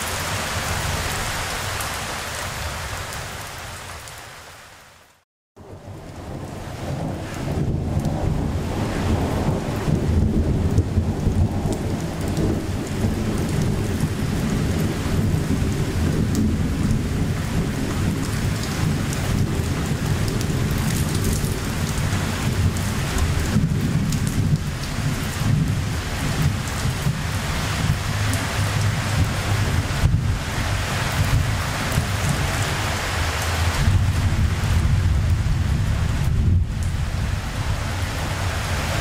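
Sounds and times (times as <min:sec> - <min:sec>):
rain drops ticking: 0:05.1 - 0:39.0
low storm rumble: 0:05.6 - 0:39.0.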